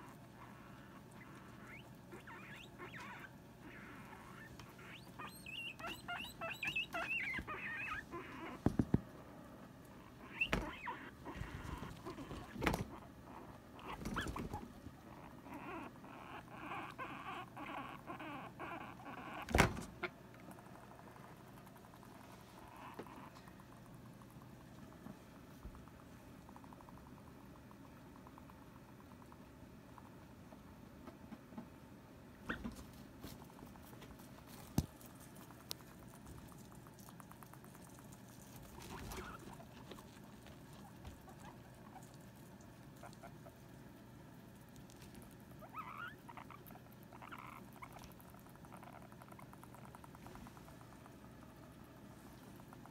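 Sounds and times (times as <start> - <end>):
guinea pig squealing: 0.0 - 8.9, 9.9 - 24.4, 32.4 - 52.9.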